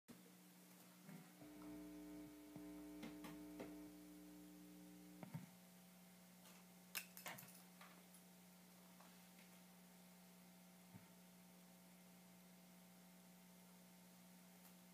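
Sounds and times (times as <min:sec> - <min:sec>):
faint electrical hum: 0:00.1 - 0:14.9.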